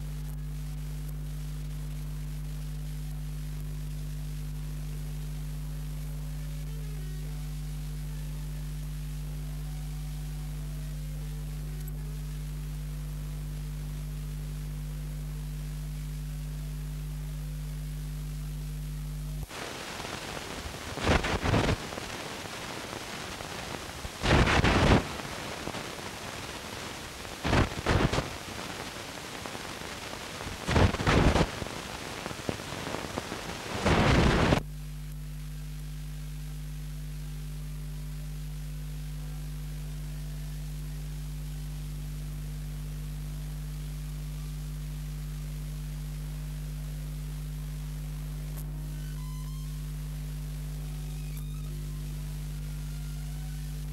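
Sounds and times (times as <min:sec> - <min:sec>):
steady electrical hum: 0:00.0 - 0:53.9.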